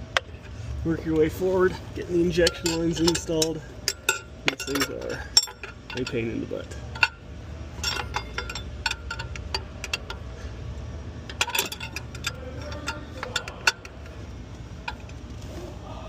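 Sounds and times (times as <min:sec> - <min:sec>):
metal fuel lines clinking: 0:00.0 - 0:15.6
low steady hum: 0:00.0 - 0:16.0.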